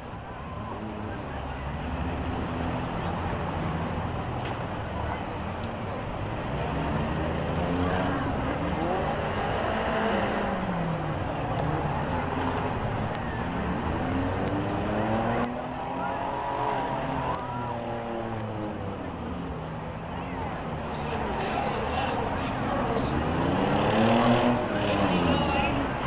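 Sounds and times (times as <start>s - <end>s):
several car engines revving: 0.0s - 26.0s.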